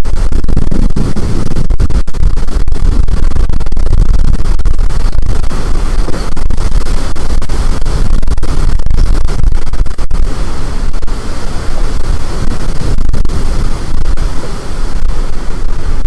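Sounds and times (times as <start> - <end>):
wind blasting microphone: 0.0 - 16.0.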